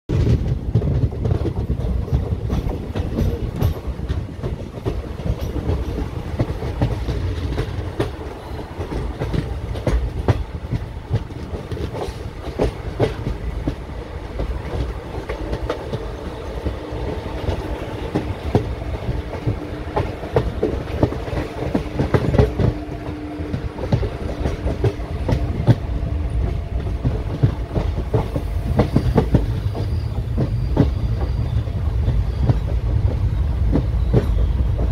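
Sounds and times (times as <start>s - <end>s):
train wheels clattering on rails: 0.1s - 34.9s.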